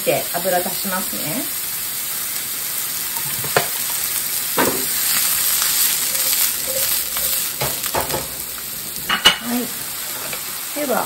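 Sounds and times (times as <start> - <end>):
vegetables sizzling in oil: 0.0 - 11.0
vegetables tossed in a pan: 1.1 - 11.0.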